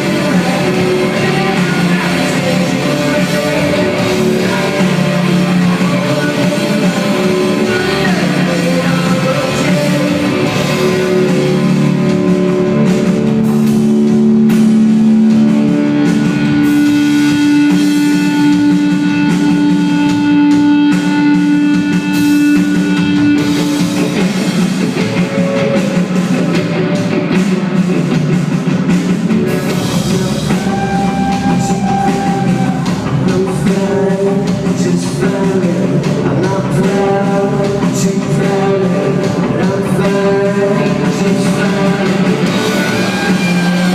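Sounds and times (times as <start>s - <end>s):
drum kit: 0.0s - 43.9s
electric guitars sustained notes: 0.0s - 43.9s.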